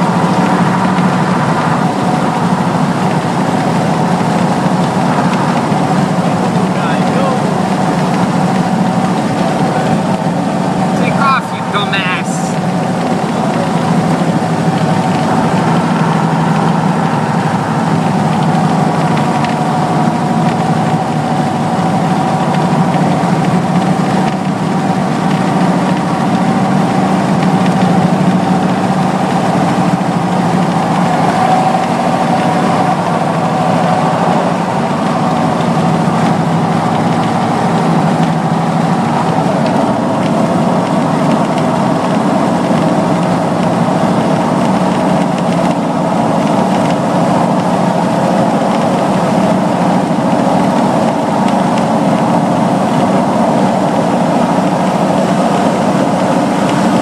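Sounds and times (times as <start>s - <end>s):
car engine and road noise drone: 0.0s - 57.0s.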